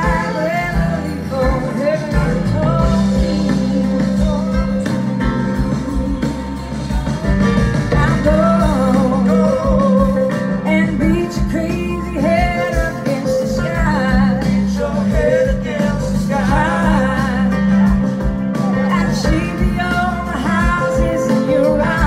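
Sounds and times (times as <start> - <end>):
woman singing: 0.0 - 6.8, 7.8 - 18.0, 18.6 - 22.0
guitar: 0.0 - 22.0.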